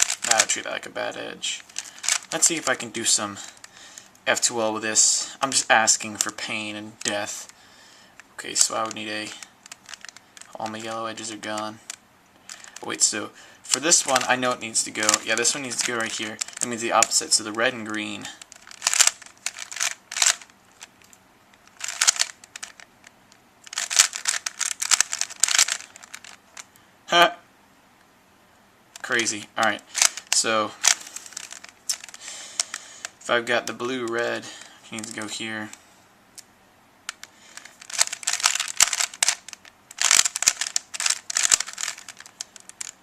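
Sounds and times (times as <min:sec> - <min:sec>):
puzzle cube plastic clicking: 0:00.0 - 0:00.7, 0:01.6 - 0:04.5, 0:05.5 - 0:07.6, 0:08.2 - 0:13.1, 0:13.7 - 0:26.8, 0:29.0 - 0:35.8, 0:37.1 - 0:43.0.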